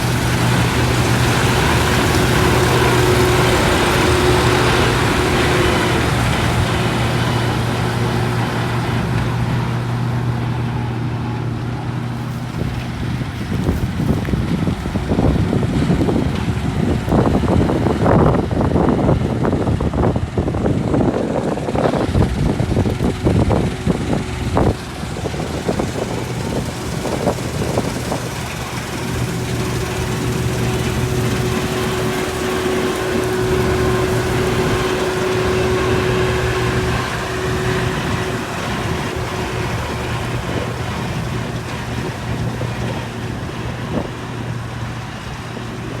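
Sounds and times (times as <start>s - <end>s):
engine humming: 0.0s - 46.0s
wind noise on microphone: 0.0s - 46.0s.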